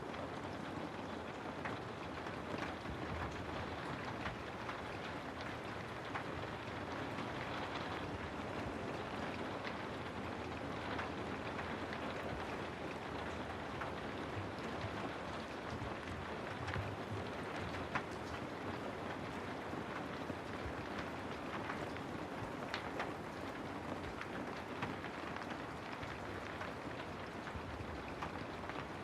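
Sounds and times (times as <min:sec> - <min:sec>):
raindrops tapping close by: 0:00.0 - 0:29.0
steady rainfall: 0:00.0 - 0:29.0.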